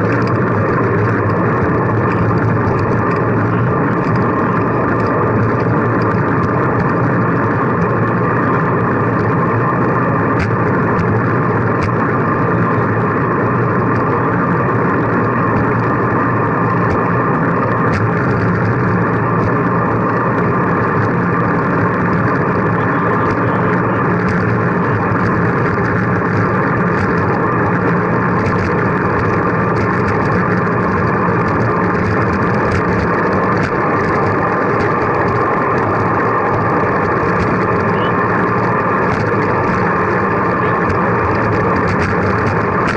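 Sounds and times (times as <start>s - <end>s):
road and wind noise: 0.0s - 42.9s.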